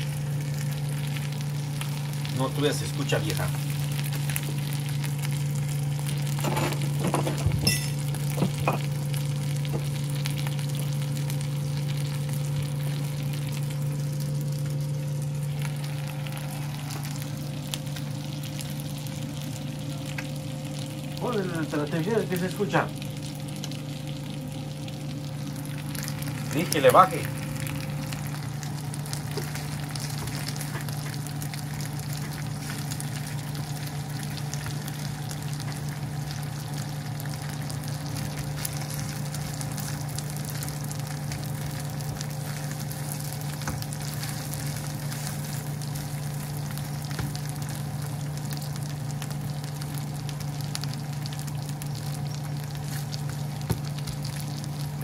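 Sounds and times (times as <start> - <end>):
chicken sizzling in a pan: 0.0 - 55.0
steady low hum: 0.0 - 55.0.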